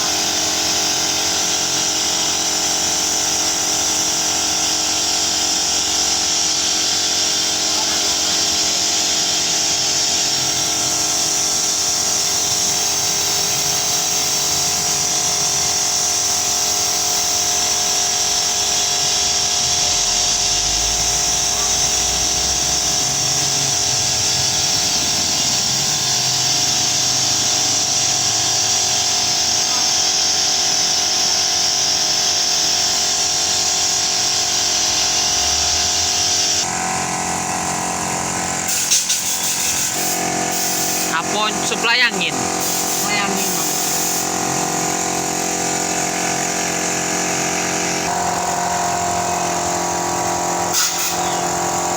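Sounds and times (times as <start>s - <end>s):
machine motor with high hiss: 0.0s - 51.9s.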